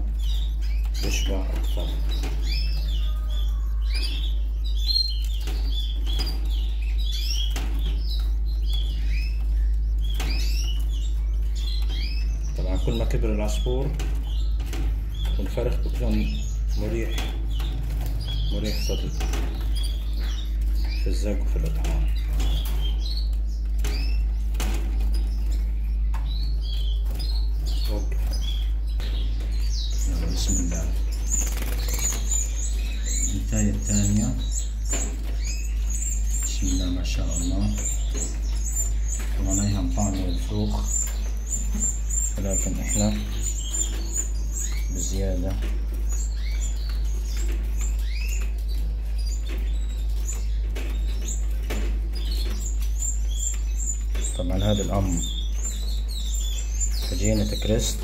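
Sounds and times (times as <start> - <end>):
canaries chirping: 0.0 - 58.0
nestlings cheeping: 0.0 - 58.0
steady low hum: 0.0 - 58.0.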